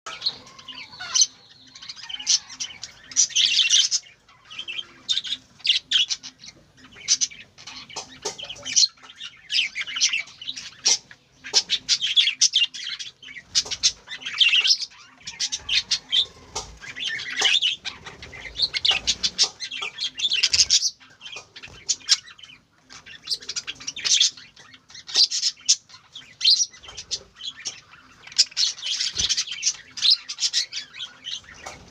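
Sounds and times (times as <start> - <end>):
budgerigars chattering: 0.1 - 31.9.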